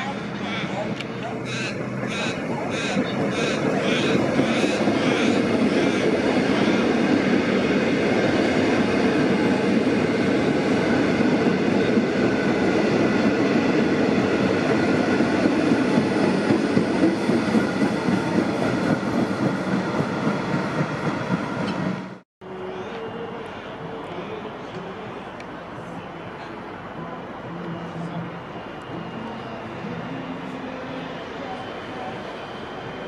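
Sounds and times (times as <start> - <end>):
electric train rumbling on rails: 0.0 - 33.0.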